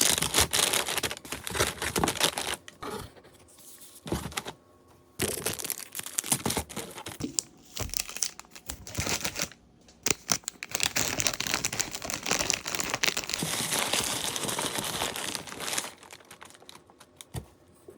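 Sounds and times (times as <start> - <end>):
plastic packaging crinkling: 0.0 - 2.8, 5.2 - 17.4.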